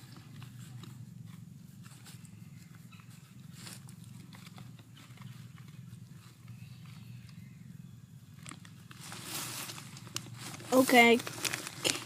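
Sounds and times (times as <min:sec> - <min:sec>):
cat purring: 0:00.0 - 0:10.5.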